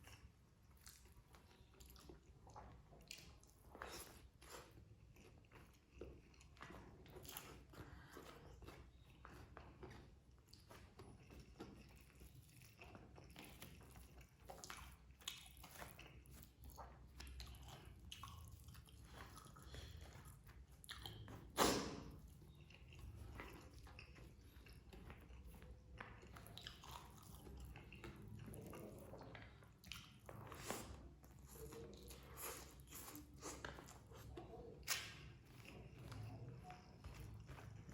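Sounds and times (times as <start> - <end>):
person chewing food: 0.0 - 37.9.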